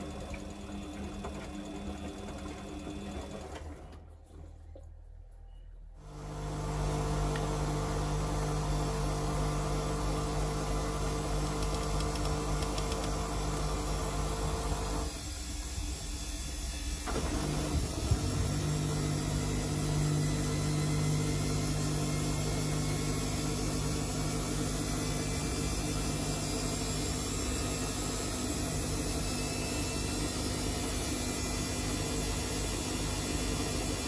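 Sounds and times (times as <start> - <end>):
washing machine running: 0.0 - 4.7, 6.0 - 34.0.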